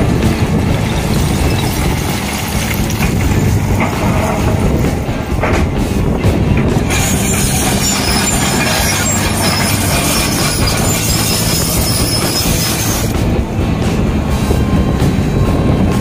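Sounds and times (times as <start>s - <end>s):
excavator diesel engine running: 0.0s - 16.0s
steel tracks clanking and squealing: 0.0s - 16.0s.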